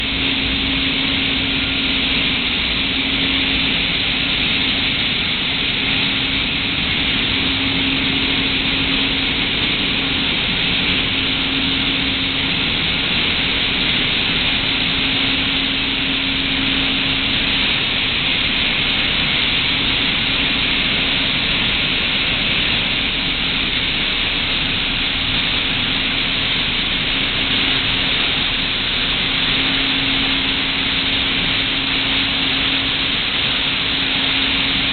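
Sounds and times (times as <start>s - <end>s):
constant low hum: 0.0s - 34.9s
loud steady rushing noise: 0.0s - 34.9s.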